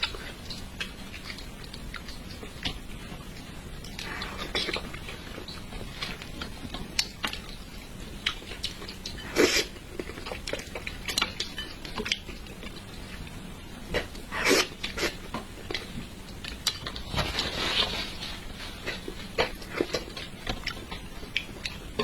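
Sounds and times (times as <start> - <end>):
chewing: 0.0 - 22.0
wet eating noises: 0.0 - 22.0.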